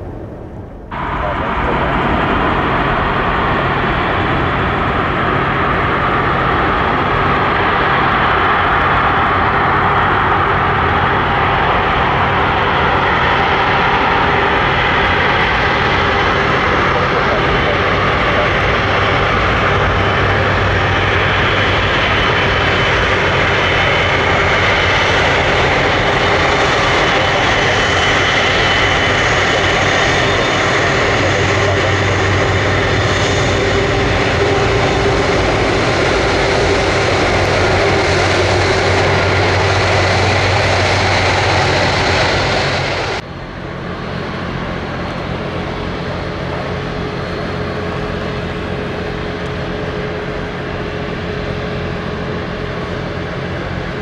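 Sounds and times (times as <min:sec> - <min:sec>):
high whine: 0:00.0 - 0:54.0
jet engines running: 0:00.0 - 0:54.0.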